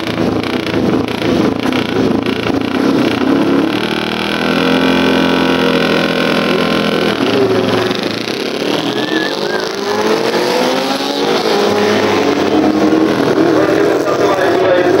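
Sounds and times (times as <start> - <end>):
racing motorcycles accelerating: 0.0 - 15.0.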